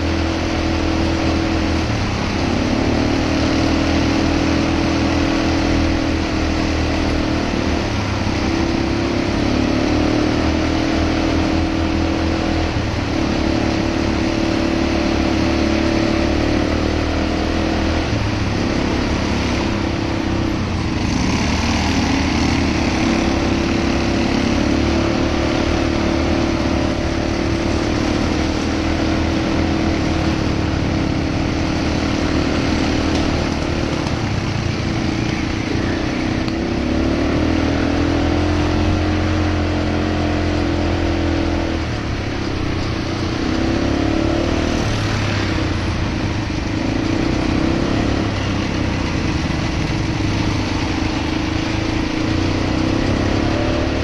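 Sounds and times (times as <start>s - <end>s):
atv engine running: 0.0s - 54.0s
wind and road noise: 0.0s - 54.0s.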